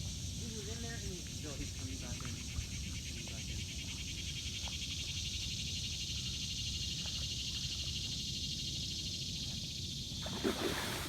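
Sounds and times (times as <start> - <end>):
insect chorus trilling: 0.0 - 11.0.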